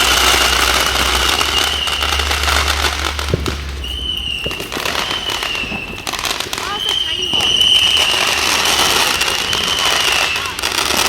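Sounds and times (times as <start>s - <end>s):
firework crackling: 0.0s - 11.0s
firework whistle: 0.0s - 11.0s
sharp firework crack: 0.0s - 11.0s.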